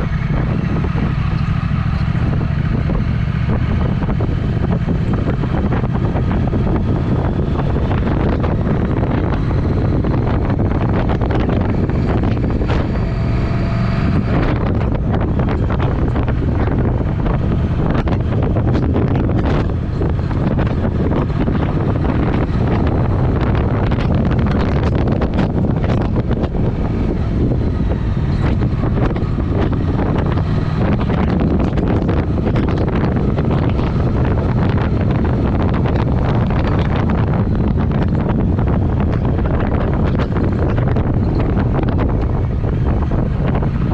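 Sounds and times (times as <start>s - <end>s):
exhaust crackles: 0.0s - 43.9s
motorcycle engine running: 0.0s - 43.9s
wind noise on microphone: 0.0s - 43.9s.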